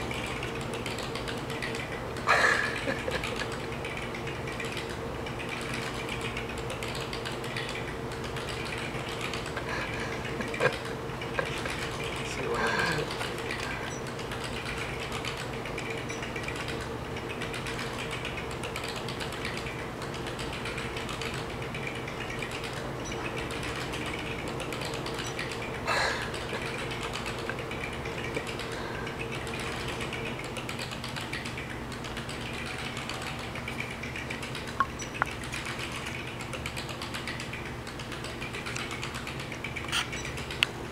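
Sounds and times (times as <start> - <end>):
massage chair motors humming: 0.0 - 40.9.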